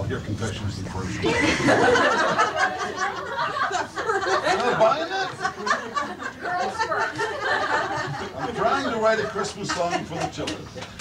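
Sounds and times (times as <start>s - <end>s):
people laughing: 1.0s - 10.6s.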